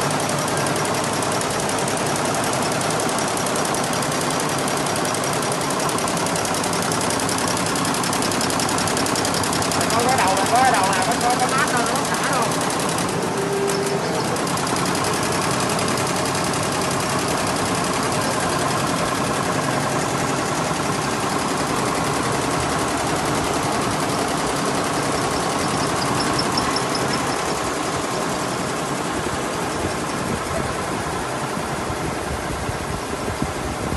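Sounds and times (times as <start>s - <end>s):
embroidery machines clattering: 0.0s - 31.9s.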